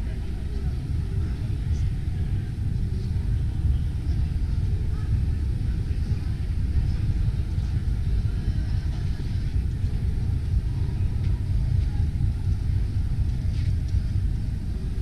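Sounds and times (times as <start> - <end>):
crowded hall background rumble: 0.0 - 15.0.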